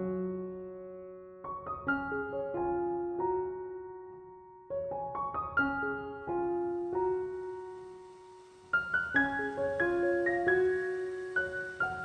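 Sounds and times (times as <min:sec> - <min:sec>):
gentle solo piano: 0:00.0 - 0:12.0.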